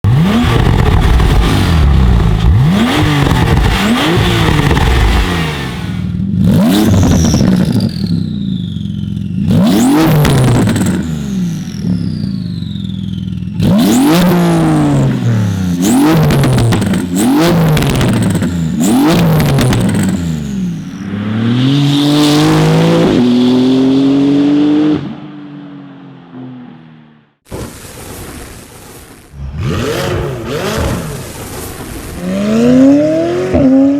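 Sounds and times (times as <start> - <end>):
car engine revving in blips: 0.0 - 25.2, 29.4 - 33.9.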